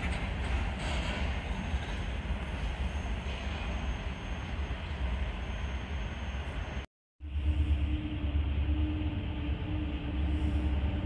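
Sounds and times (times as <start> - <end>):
freight train rumbling on track: 0.0 - 11.0.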